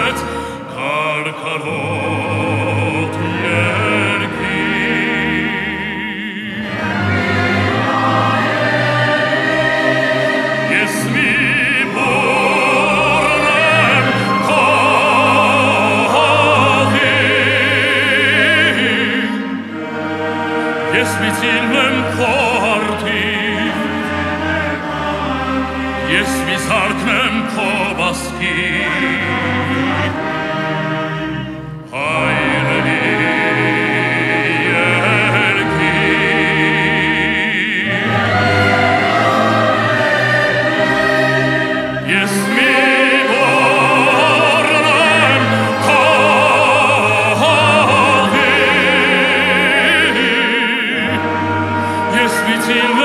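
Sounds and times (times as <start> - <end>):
man singing operatically: 0.0 - 7.2, 10.7 - 19.5, 20.9 - 25.2, 26.0 - 30.5, 31.8 - 39.2, 42.0 - 53.0
symphony orchestra: 0.0 - 53.0.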